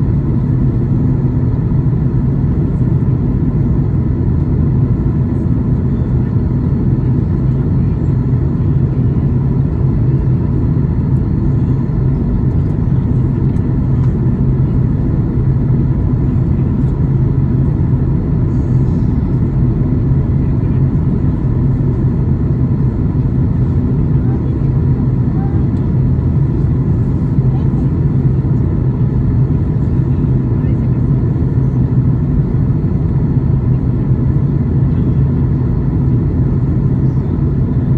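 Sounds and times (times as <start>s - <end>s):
airflow over fuselage: 0.0s - 37.9s
constant low hum: 0.0s - 37.9s
jet engine rumble: 0.0s - 37.9s.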